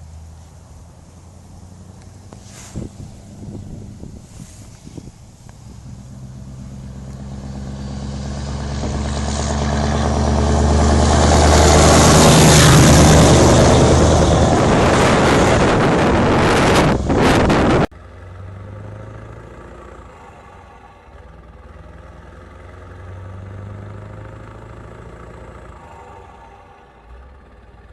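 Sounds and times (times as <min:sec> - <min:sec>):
truck diesel engine running: 0:00.0 - 0:27.9.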